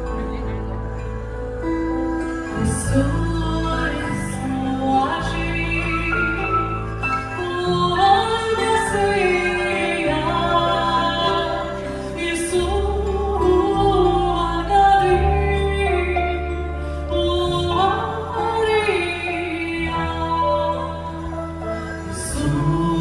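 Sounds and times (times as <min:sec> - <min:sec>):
sustained bass notes: 0:00.0 - 0:23.0
voices singing slow melody: 0:02.1 - 0:23.0.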